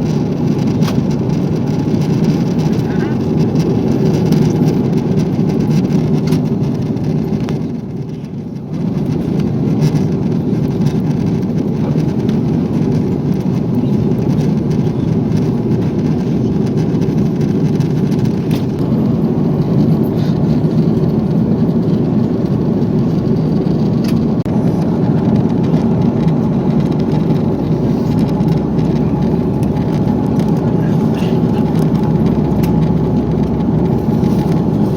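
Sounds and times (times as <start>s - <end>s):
airplane cabin engine roar: 0.0s - 34.9s.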